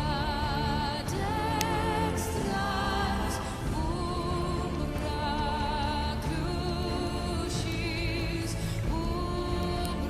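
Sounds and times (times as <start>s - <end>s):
low dense musical accompaniment: 0.0s - 10.0s.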